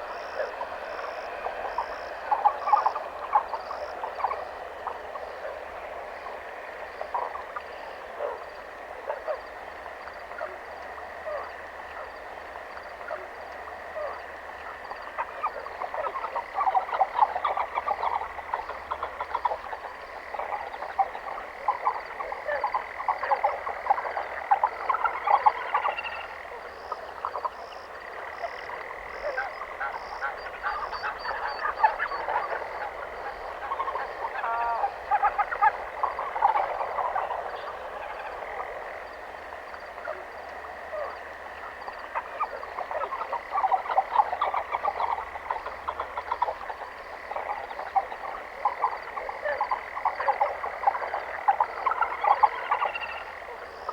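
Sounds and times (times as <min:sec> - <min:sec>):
frogs croaking: 0:00.0 - 0:53.9.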